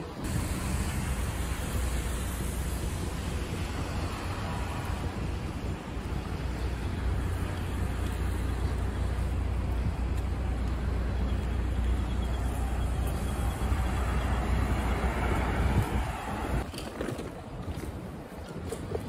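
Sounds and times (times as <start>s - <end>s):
cars and buses passing: 0.0s - 19.0s
steady low traffic rumble: 0.0s - 19.0s.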